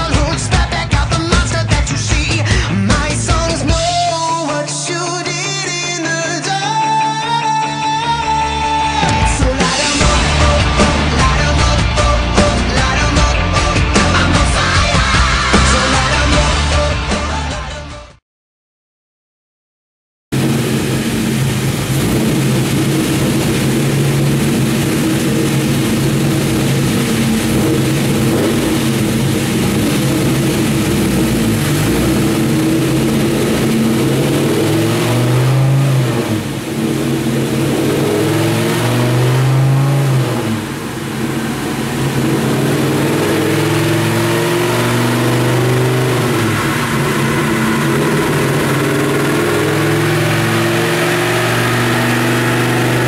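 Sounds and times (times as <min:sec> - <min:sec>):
engine idling and revving: 0:00.0 - 0:17.9, 0:20.3 - 0:53.0.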